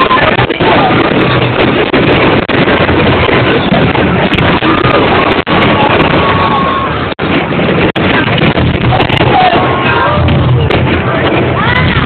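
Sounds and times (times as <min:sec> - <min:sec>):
fireworks bangs and crackle: 0:00.0 - 0:12.0
fireworks whistling: 0:00.0 - 0:12.0.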